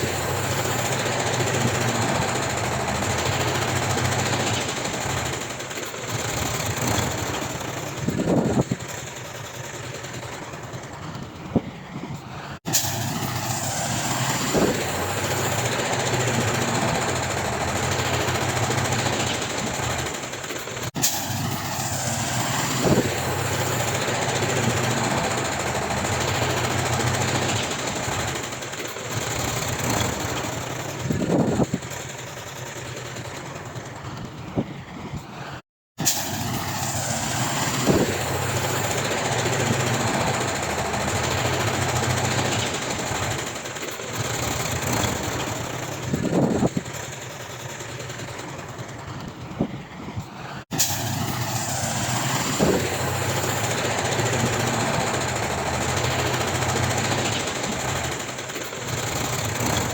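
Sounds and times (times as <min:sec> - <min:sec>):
heavy diesel machinery drone: 0:00.0 - 0:59.9.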